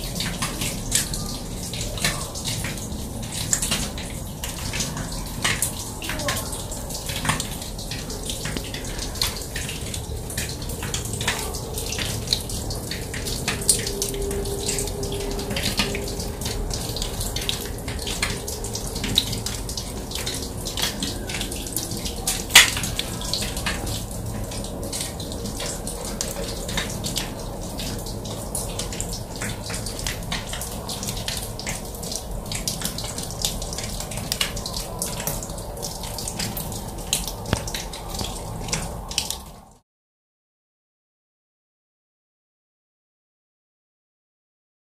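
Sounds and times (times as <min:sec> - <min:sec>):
running water: 0:00.0 - 0:39.8
water drops pattering: 0:00.0 - 0:39.8.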